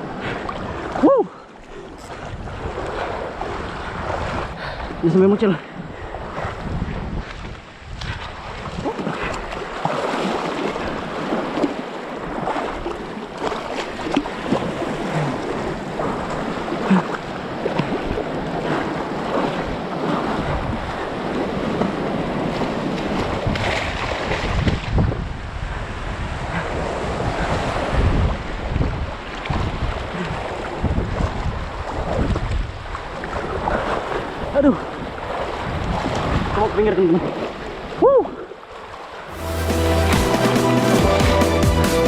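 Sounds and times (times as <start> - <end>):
wind gusting on microphone: 0.0 - 38.4
sea waves washing onto shore: 0.0 - 42.0.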